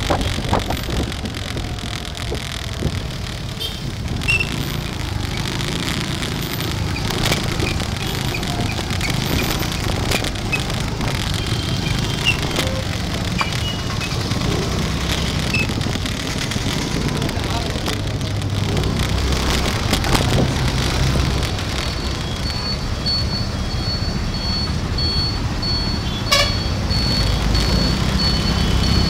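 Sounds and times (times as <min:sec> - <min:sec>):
motorbike engine and road rumble: 0:00.0 - 0:29.0
passing motorcycles and cars: 0:00.0 - 0:29.0.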